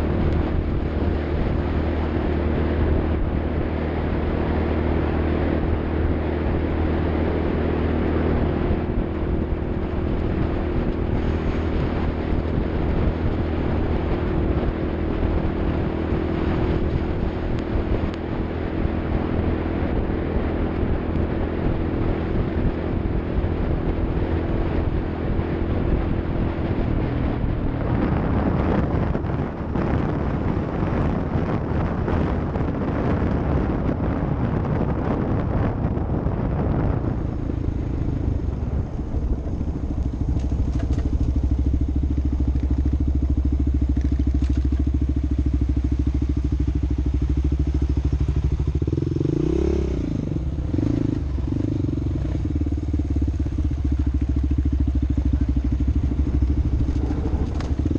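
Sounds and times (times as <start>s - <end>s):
off-road vehicle engine running: 0.0s - 57.9s.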